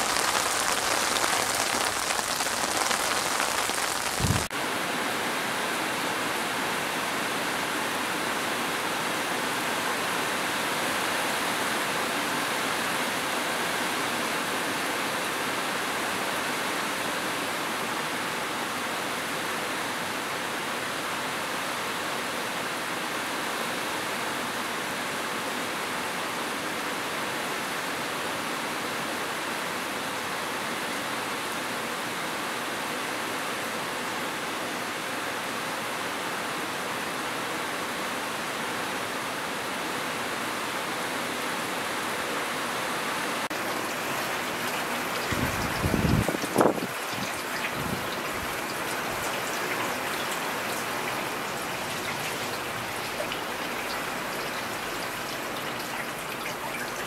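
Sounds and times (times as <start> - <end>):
heavy rain on metal roofs: 0.0 - 57.0.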